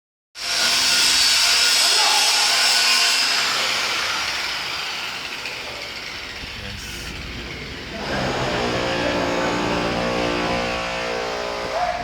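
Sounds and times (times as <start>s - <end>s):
welding arc hissing: 0.4s - 11.7s.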